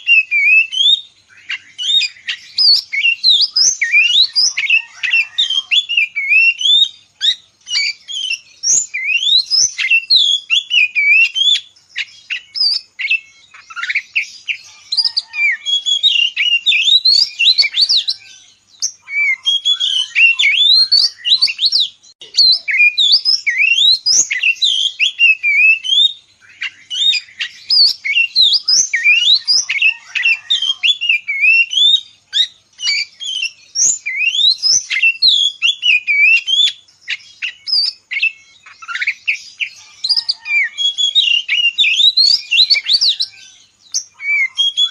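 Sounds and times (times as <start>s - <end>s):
songbird whistling song: 0.0s - 44.9s.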